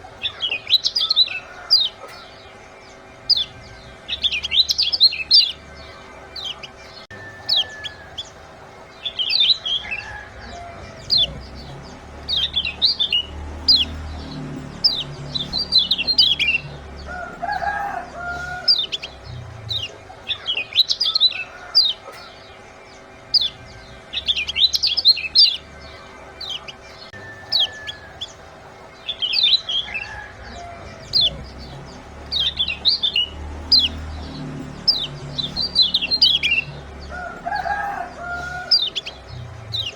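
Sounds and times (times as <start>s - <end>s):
birds chirping: 0.0s - 39.9s
low bird call: 0.0s - 39.9s.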